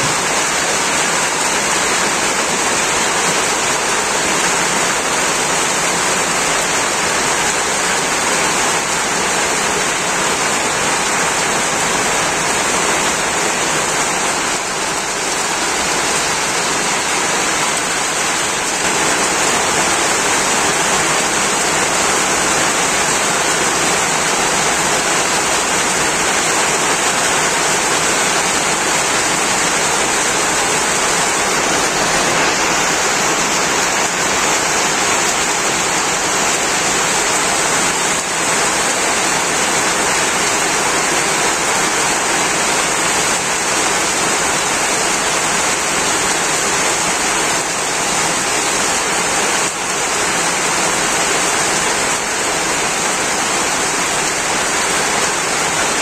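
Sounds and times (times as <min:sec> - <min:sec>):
heavy rain on tin roofs: 0:00.0 - 0:56.0.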